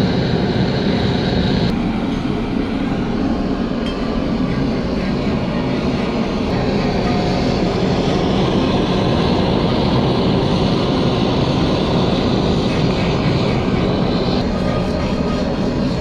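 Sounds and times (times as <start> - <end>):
blowtorch roaring: 0.0 - 16.0.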